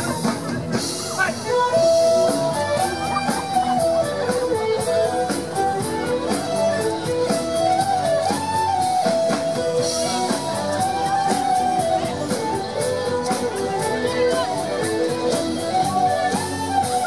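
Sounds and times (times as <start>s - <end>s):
live band with strummed strings: 0.0s - 17.0s.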